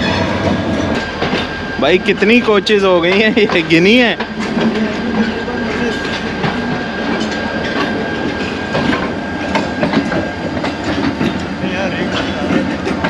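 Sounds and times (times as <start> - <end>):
train rumble: 0.0 - 13.0
train wheels clicking over rail joints: 0.0 - 13.0.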